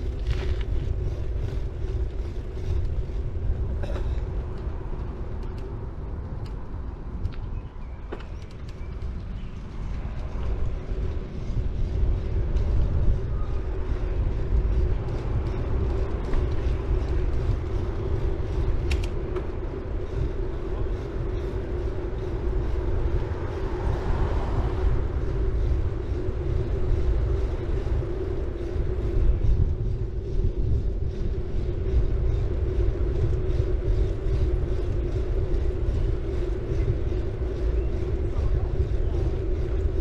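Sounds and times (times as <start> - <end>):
bike clicks and rattles: 0.0 - 40.0
bike tyre and wind rumble: 0.0 - 40.0
constant hum: 0.0 - 40.0.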